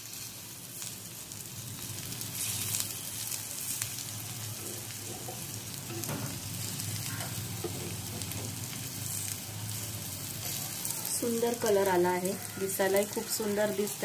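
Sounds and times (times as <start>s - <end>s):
oil sizzling in a pan: 0.0s - 14.0s.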